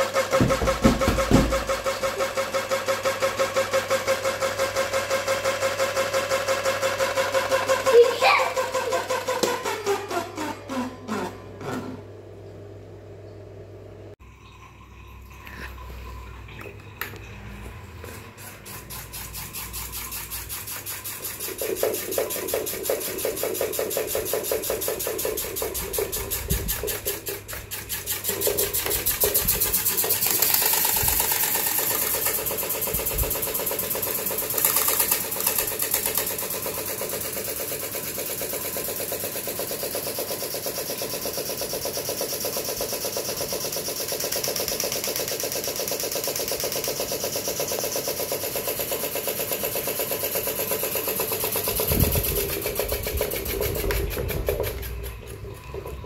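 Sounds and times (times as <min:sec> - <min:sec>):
electric fan whirring and rattling: 0:00.0 - 0:56.0.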